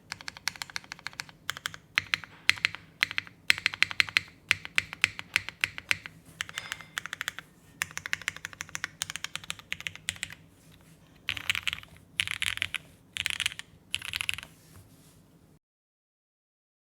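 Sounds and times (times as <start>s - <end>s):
mechanical keyboard typing: 0.0s - 10.4s, 11.2s - 14.5s.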